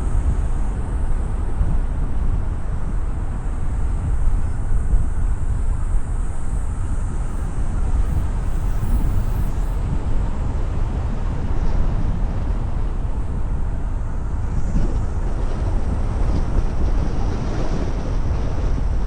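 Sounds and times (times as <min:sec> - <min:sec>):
car tyre and wind rumble: 0:00.0 - 0:19.0.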